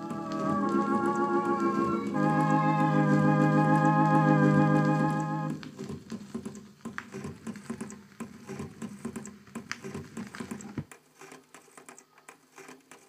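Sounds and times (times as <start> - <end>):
record surface crackles and clicks: 0.0 - 13.0.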